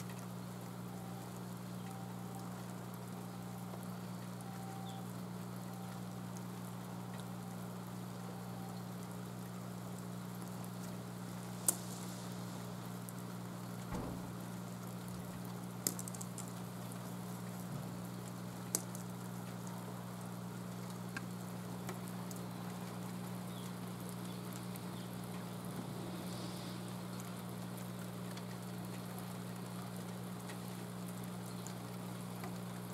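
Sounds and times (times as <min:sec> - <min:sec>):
low steady hum: 0:00.0 - 0:32.9
rain patter: 0:00.0 - 0:32.9.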